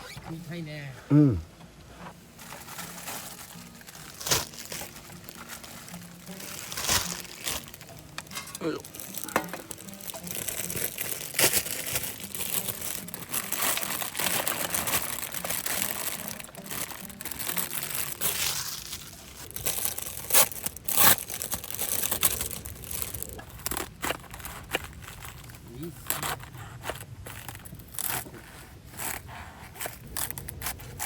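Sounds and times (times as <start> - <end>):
plastic packaging crinkling: 2.2 - 31.0.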